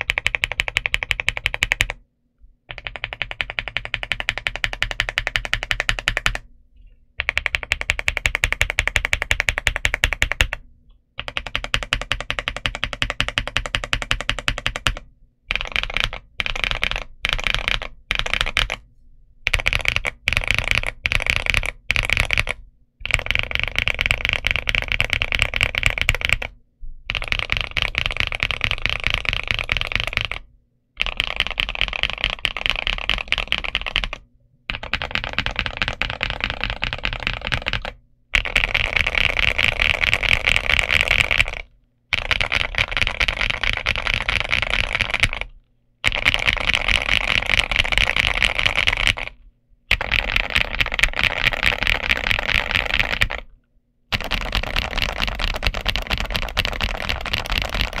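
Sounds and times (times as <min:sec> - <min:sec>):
fast typing on mechanical keyboard: 0:00.0 - 0:02.0, 0:02.7 - 0:06.5, 0:07.2 - 0:10.6, 0:11.2 - 0:18.8, 0:19.4 - 0:53.5, 0:54.1 - 0:58.0.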